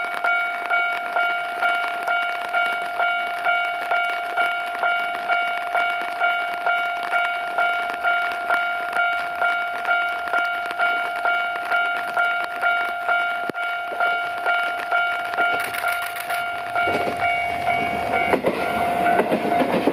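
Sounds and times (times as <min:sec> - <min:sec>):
level crossing warning bell: 0:00.0 - 0:19.9
train passing: 0:00.0 - 0:19.9.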